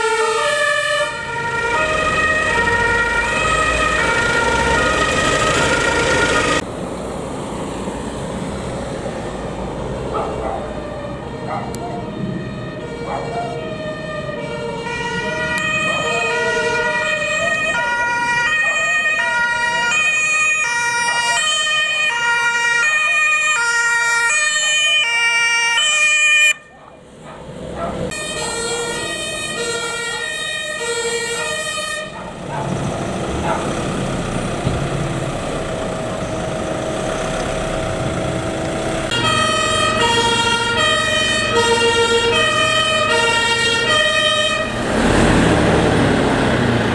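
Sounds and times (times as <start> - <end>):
truck engines: 0.0 - 46.9
two-tone sirens: 0.0 - 46.9.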